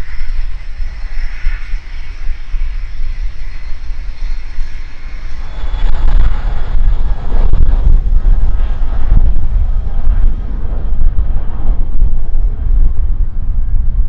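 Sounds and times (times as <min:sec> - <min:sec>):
airplane engine rumble: 0:00.0 - 0:14.0.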